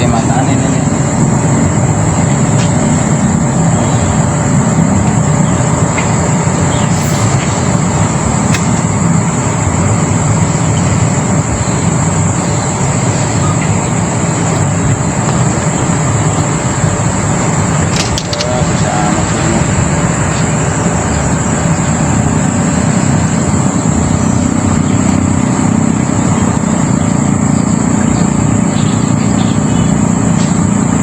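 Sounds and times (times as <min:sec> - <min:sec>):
high-pitched whine: 0:00.0 - 0:31.0
loud rumbling: 0:00.0 - 0:31.0.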